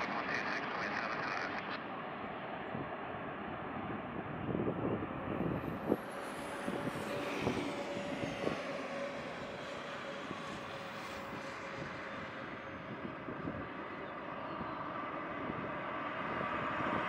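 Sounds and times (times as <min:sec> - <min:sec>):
jet engines rushing and whining: 0:00.0 - 0:17.0.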